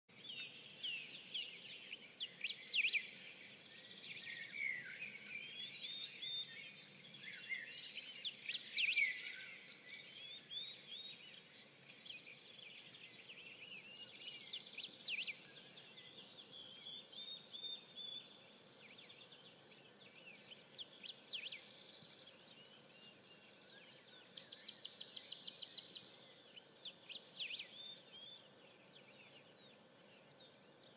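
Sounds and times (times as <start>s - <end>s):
songbirds singing: 0.1s - 30.9s.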